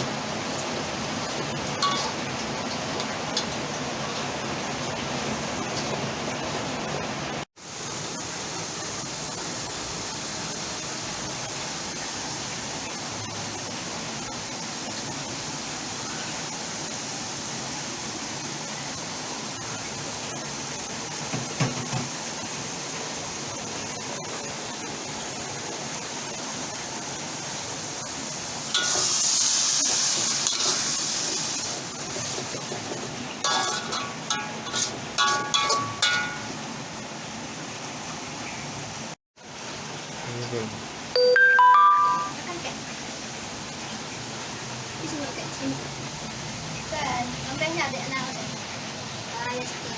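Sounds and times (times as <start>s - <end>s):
vegetables sizzling in a pan: 0.0s - 41.1s, 42.3s - 49.9s.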